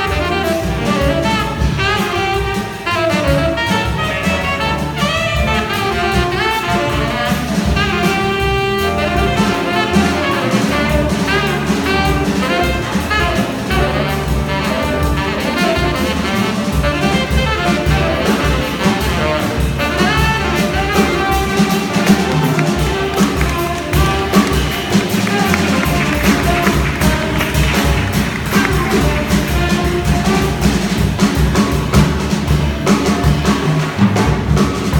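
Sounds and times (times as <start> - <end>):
tenor saxophone improvising: 0.0 - 31.4
drums: 0.0 - 34.9
piano: 0.0 - 34.9
walking bass: 0.0 - 34.9.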